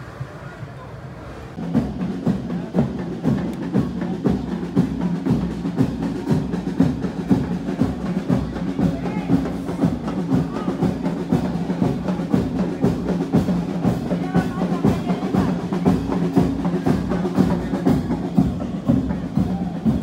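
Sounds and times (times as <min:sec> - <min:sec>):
parade drums beating: 0:01.6 - 0:20.0.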